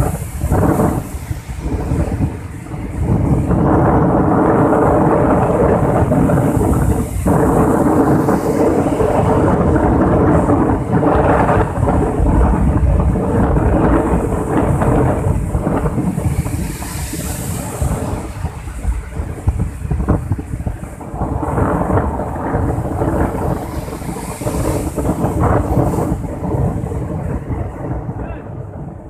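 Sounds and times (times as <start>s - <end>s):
surf breaking on shore: 0.0s - 29.0s.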